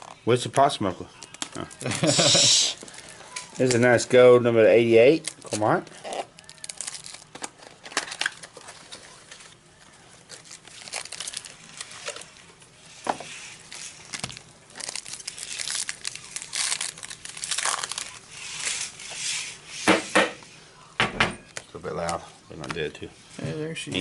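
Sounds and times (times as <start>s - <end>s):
card pack wrappers crinkling: 0.0s - 19.6s.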